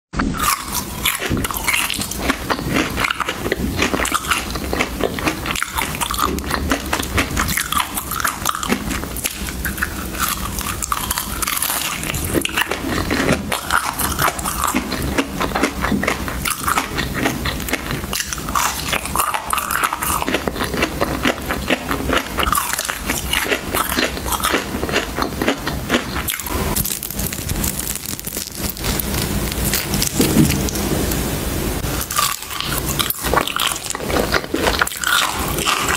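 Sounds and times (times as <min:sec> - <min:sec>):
ice crunching between teeth: 0:00.2 - 0:30.8, 0:32.0 - 0:35.9.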